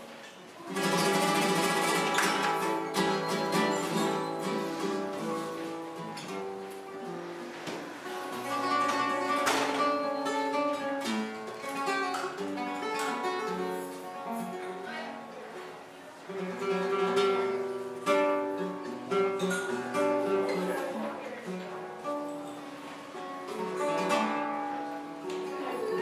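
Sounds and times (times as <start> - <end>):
flamenco guitar playing: 0.6 - 26.0.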